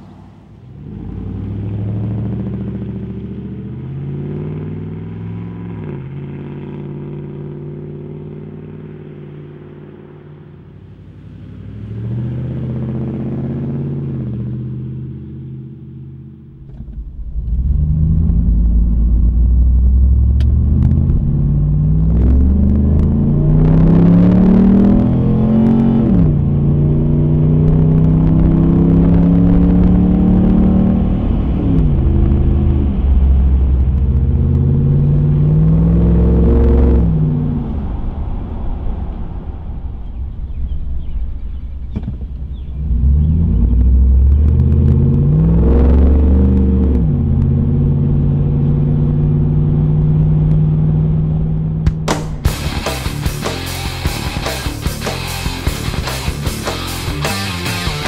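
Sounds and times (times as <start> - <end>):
truck engine exhaust: 0.0 - 58.0.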